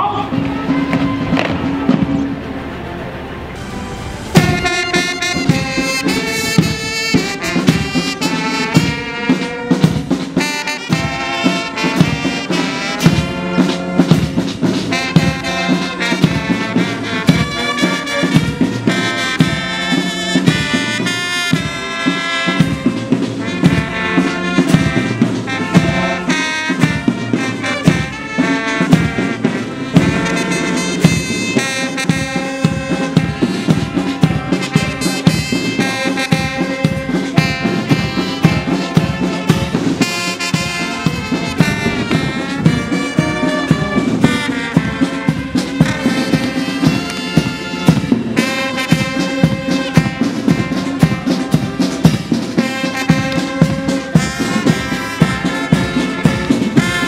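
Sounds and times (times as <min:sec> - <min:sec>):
steady drum beat: 0:00.0 - 0:02.4, 0:03.7 - 0:57.0
trumpets and trombones: 0:00.0 - 0:57.0.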